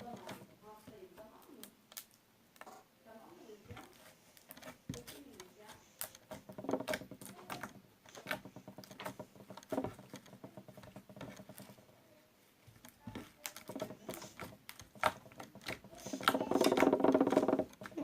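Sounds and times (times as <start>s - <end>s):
slime squishing: 0.0s - 2.8s, 3.6s - 18.0s.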